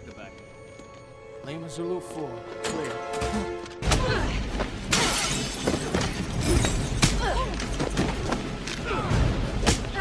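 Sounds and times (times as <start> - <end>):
tense action music: 0.0 - 10.0.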